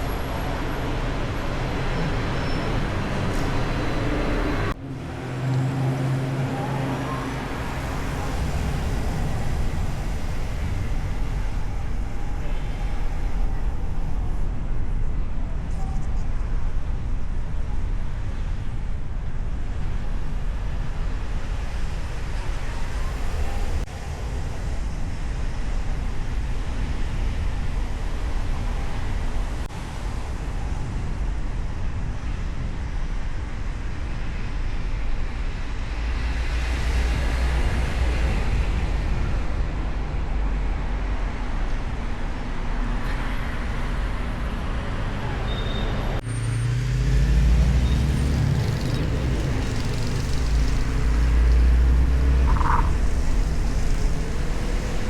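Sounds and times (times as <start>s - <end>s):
car road noise rumble: 0.0s - 55.0s
city traffic: 0.0s - 55.0s.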